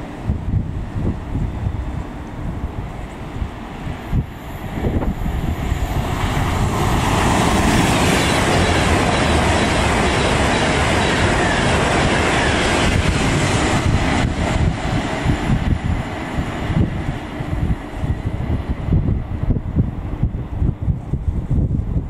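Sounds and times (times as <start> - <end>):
electric train passing at speed: 0.0 - 22.0.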